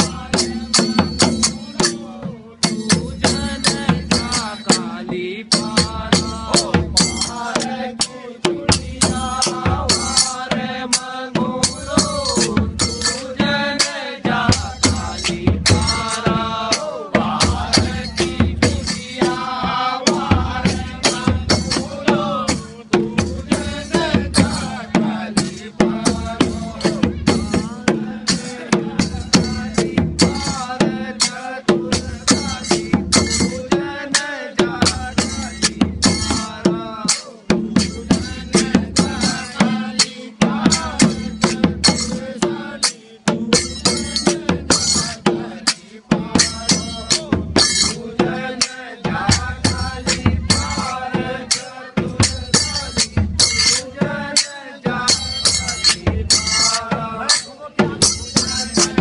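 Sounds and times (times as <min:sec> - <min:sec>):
steady drum beat: 0:00.0 - 0:59.0.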